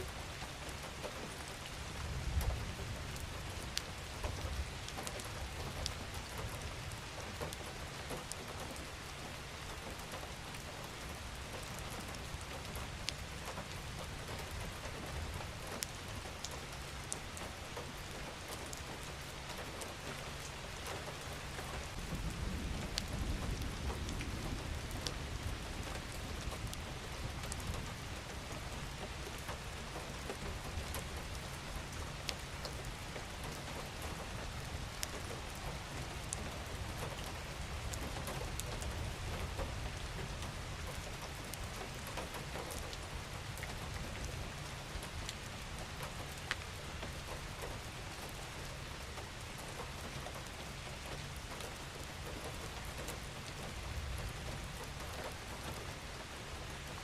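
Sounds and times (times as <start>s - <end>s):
sharp raindrops: 0.0s - 57.0s
steady rain hiss: 0.0s - 57.0s.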